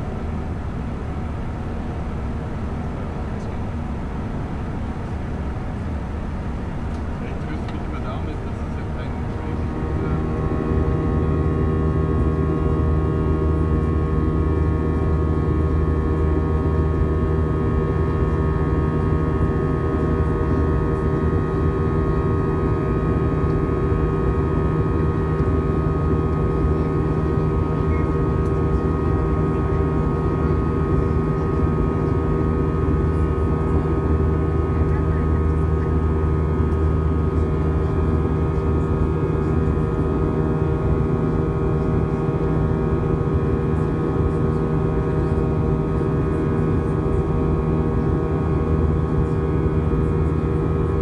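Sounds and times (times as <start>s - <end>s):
jet engine cabin drone: 0.0s - 51.0s.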